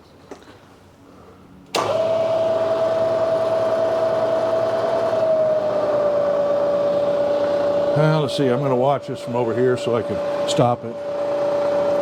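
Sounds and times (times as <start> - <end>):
metal lathe motor whining: 1.7 - 12.0.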